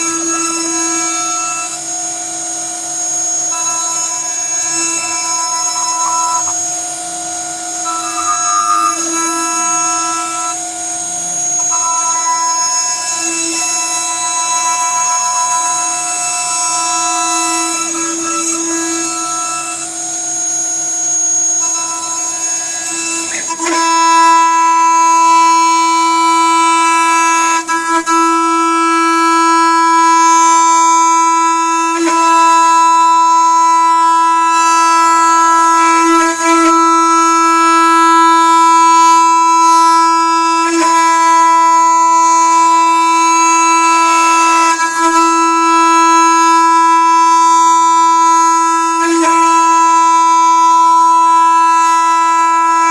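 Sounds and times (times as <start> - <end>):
router spindle high-pitched whine: 0.0 - 52.9.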